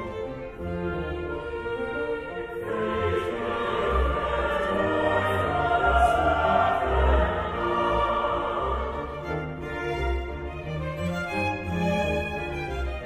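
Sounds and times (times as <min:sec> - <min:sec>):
choir singing sacred music: 0:00.0 - 0:13.0
small orchestra of strings and woodwinds: 0:00.0 - 0:13.0.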